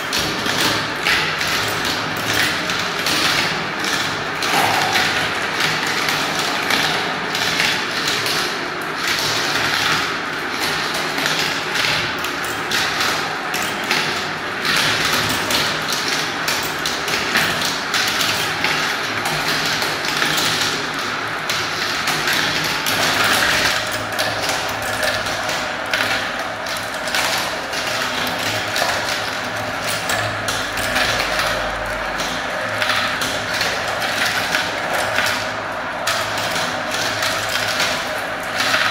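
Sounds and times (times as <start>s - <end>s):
marbles clattering in plastic run: 0.0s - 38.9s.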